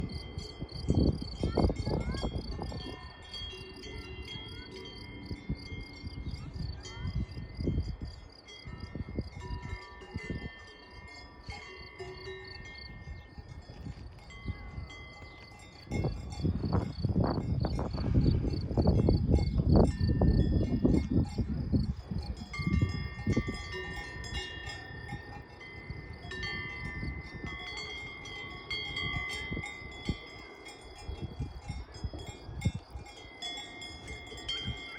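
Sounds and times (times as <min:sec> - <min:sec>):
cowbells ringing: 0:00.0 - 0:34.9
wind rumbling on microphone: 0:00.0 - 0:34.9.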